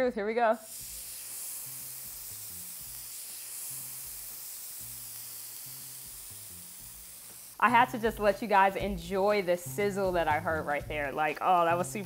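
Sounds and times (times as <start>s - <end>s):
faint background music: 0.0s - 12.0s
steak sizzling: 0.6s - 12.0s.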